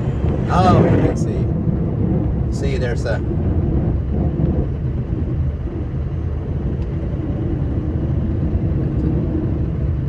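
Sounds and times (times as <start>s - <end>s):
road noise: 0.0s - 10.0s
truck diesel engine rumbling: 0.0s - 10.0s.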